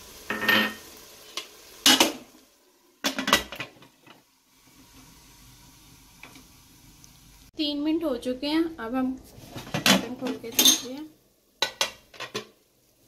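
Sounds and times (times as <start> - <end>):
faint food sizzling: 0.0 - 13.0.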